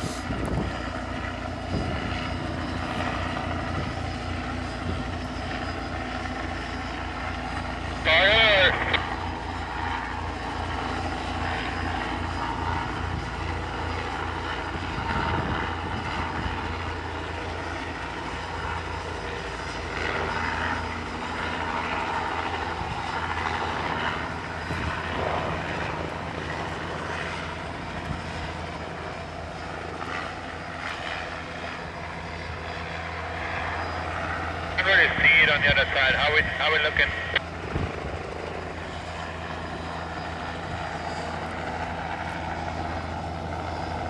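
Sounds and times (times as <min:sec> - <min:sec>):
helicopter rotor and engine drone: 0:00.0 - 0:44.0.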